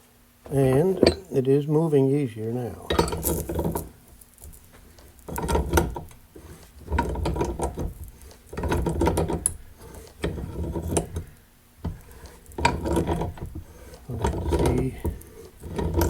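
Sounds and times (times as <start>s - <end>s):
bearing grinding and clicking: 0.5s - 1.4s, 2.9s - 16.0s.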